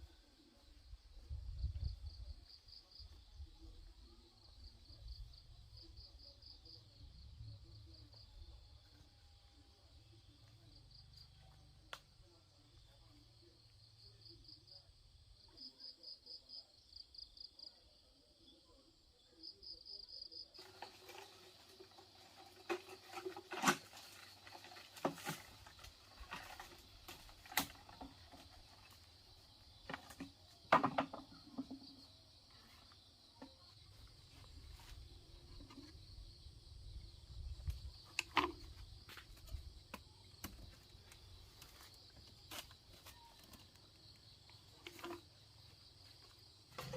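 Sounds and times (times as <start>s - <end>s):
insects chirping in trills: 0.0s - 46.9s.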